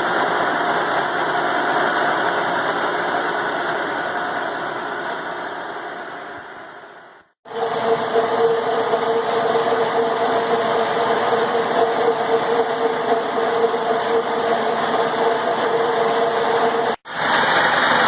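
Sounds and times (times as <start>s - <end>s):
milling machine cutting steel: 0.0s - 18.0s.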